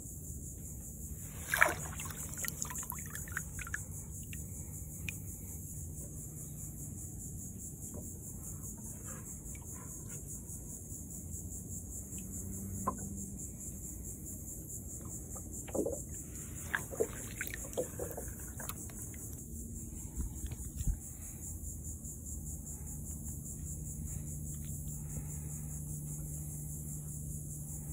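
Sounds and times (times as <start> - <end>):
pulsing insect chorus: 0.0 - 27.9.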